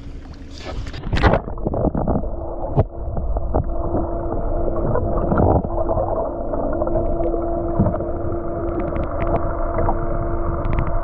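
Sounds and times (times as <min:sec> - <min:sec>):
boat engine hum underwater: 0:00.0 - 0:11.0.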